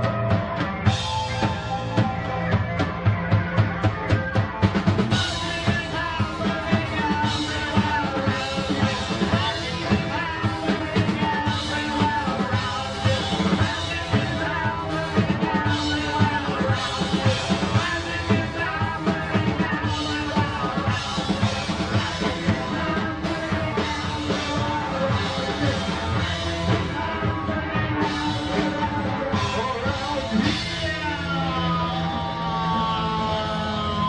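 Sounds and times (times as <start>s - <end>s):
bass guitar: 0.0s - 34.0s
electric guitar: 0.0s - 34.0s.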